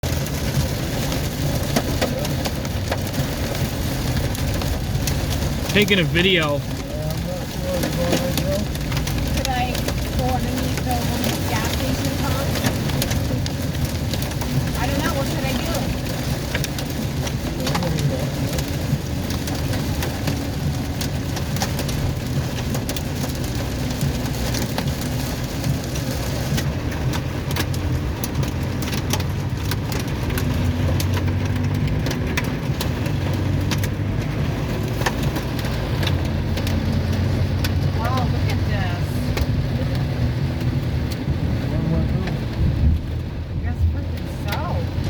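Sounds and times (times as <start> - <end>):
car engine humming: 0.0 - 45.0
hailstones ticking: 0.0 - 45.0
heavy rain on a car: 0.0 - 45.0.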